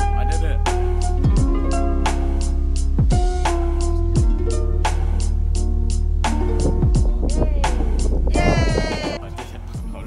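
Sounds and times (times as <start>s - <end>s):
background music with deep bass: 0.0s - 10.0s.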